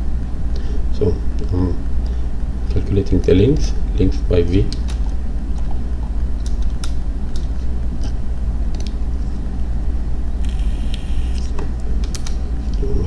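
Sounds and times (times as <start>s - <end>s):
low microphone hum: 0.0s - 13.0s.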